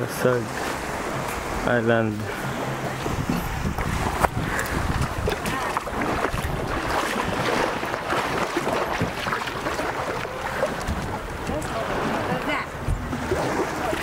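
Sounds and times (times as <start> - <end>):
seawater splashing and lapping: 0.0 - 14.0
wind buffeting microphone: 1.0 - 14.0.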